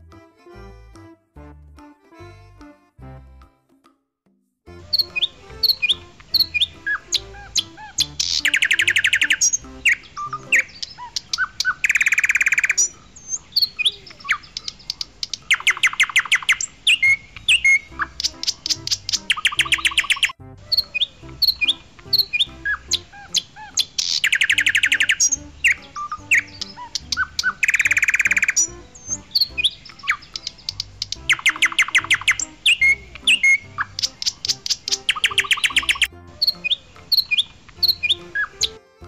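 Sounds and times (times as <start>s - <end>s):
soft background music: 4.7s - 13.7s, 15.5s - 39.0s
loud bird trills: 4.8s - 38.8s
birds chirping and tweeting: 4.8s - 39.0s.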